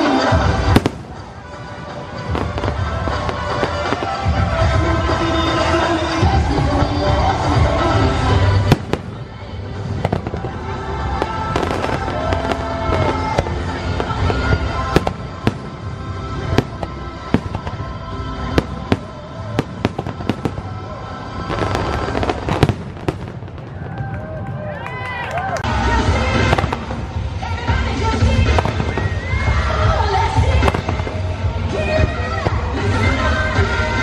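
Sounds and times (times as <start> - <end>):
fireworks bangs and crackling: 0.0 - 34.0
music playing: 0.0 - 34.0.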